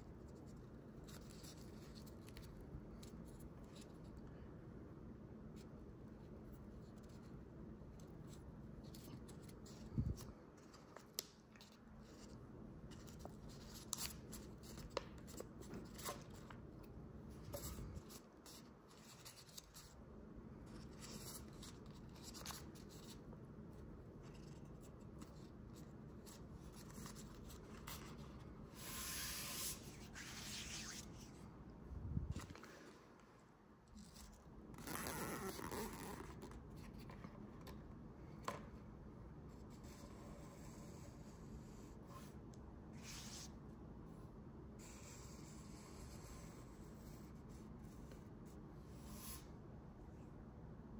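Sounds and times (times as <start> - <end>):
low steady background noise: 0.0 - 50.9.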